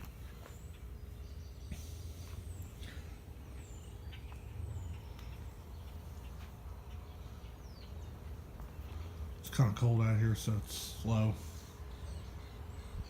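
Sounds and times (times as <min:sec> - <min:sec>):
birds chirping: 0:00.0 - 0:13.0
faint motor hum: 0:00.0 - 0:13.0
fan air rushing: 0:00.0 - 0:13.0.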